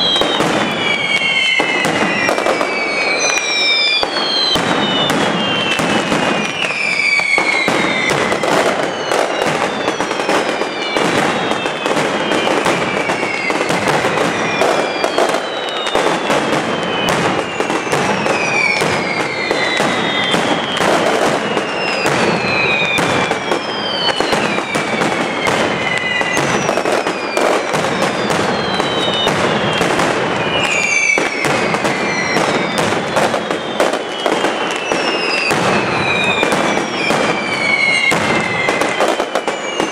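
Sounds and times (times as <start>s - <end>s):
falling whistles: 0.0s - 39.9s
firecrackers crackling and banging: 0.0s - 39.9s.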